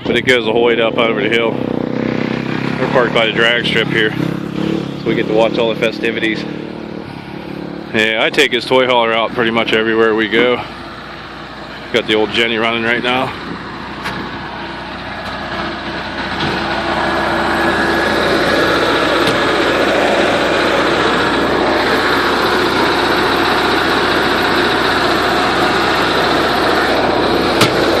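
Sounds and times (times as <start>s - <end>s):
generator engine running: 0.0s - 28.0s.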